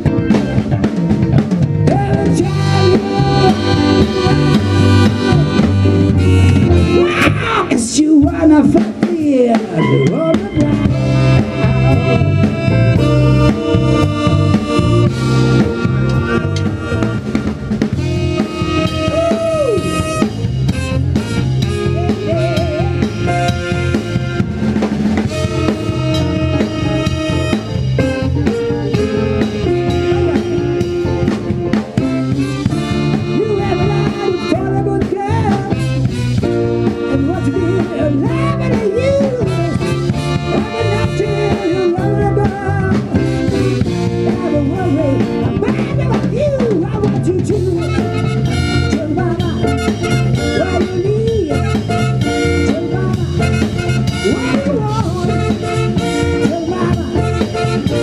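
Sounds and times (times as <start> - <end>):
band playing instrumental: 0.0 - 58.0
drum kit beat: 0.0 - 58.0.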